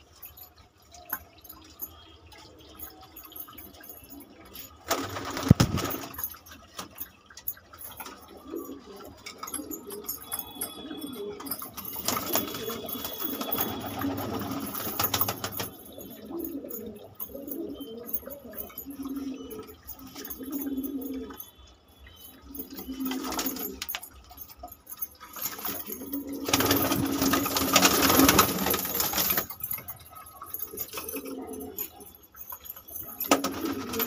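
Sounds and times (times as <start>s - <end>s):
pigeons cooing: 0.3s - 34.0s.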